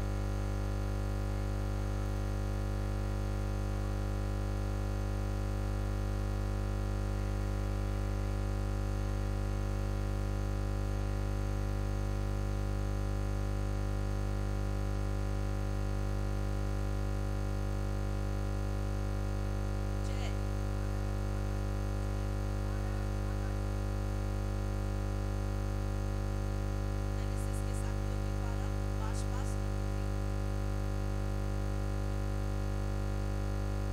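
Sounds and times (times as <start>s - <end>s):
steady electrical hum: 0.0s - 33.9s.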